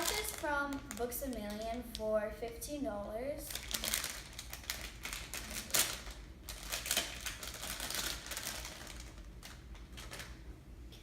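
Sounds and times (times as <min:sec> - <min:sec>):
plastic packaging crinkling: 0:00.0 - 0:02.2, 0:03.5 - 0:10.4.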